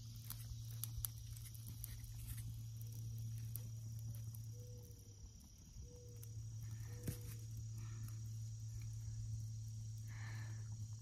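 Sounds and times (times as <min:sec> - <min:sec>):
crickets trilling: 0:00.0 - 0:11.0
low hum: 0:00.0 - 0:11.0.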